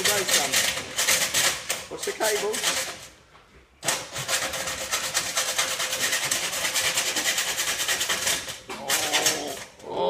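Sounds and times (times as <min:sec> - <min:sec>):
hacksaw cutting metal: 0:00.0 - 0:03.1, 0:03.8 - 0:09.7.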